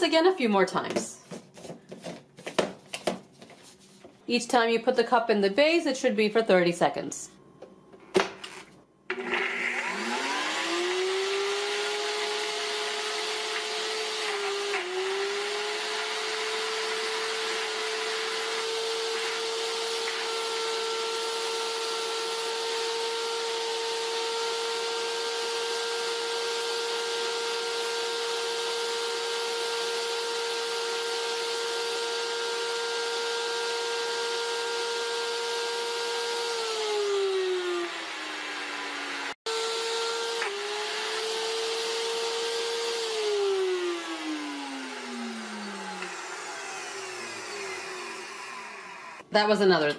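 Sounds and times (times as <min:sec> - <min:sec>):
blender motor whining: 0:09.1 - 0:49.3.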